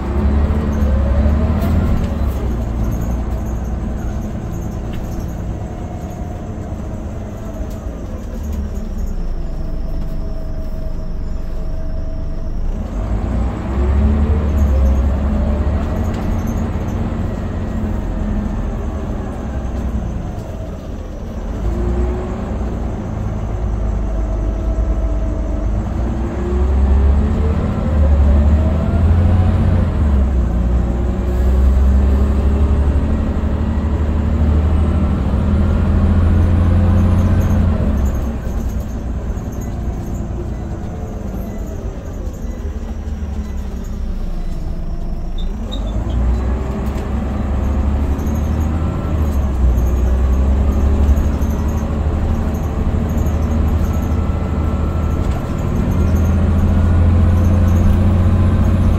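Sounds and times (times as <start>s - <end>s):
bus diesel engine pulling: 0.0s - 58.9s.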